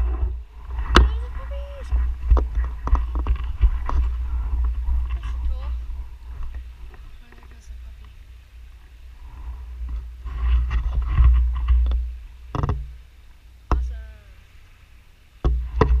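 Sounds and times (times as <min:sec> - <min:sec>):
wind buffeting microphone: 0:00.0 - 0:13.1.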